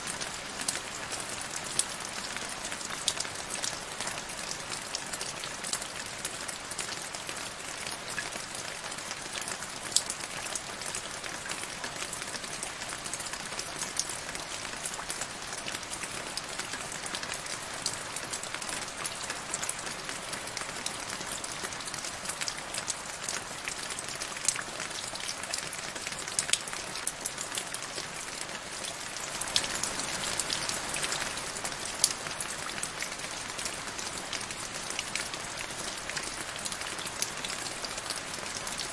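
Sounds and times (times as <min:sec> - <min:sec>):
rain pattering into puddle: 0:00.0 - 0:38.9.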